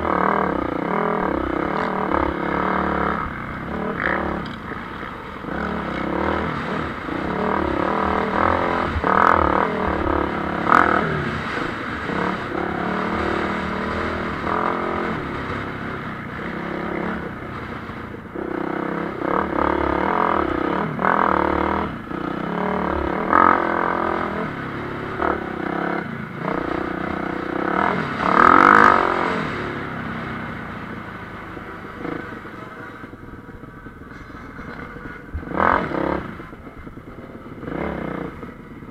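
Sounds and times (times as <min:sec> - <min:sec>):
motocross bikes racing past: 0:00.0 - 0:38.9.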